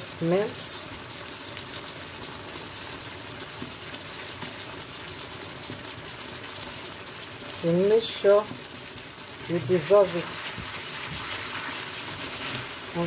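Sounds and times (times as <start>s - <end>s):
sauce simmering and bubbling: 0.1s - 13.0s.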